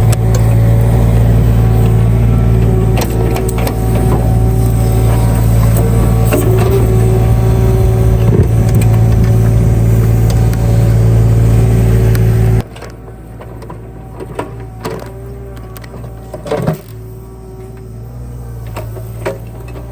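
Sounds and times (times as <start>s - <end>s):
large engine running: 0.0s - 19.9s.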